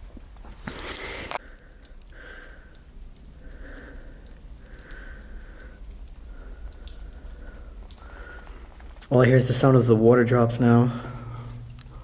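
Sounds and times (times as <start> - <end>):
water drops dripping: 0.2 - 12.0.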